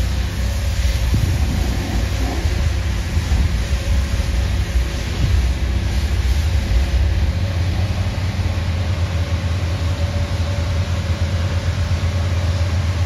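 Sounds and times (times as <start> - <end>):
pressure washer engine humming: 0.0 - 13.0
water jet hissing on paving: 0.0 - 13.0.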